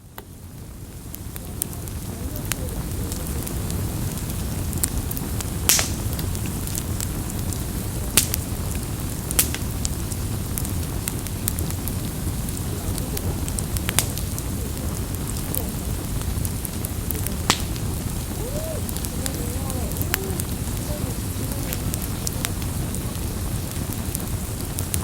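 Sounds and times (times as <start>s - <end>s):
campfire flames rumbling: 0.0s - 25.0s
fire crackles and pops: 0.0s - 25.0s.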